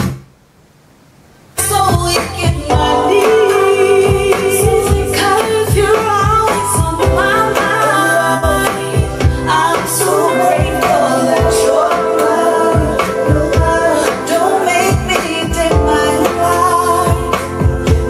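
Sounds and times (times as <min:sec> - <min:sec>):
pop song with singing: 0:01.6 - 0:18.0.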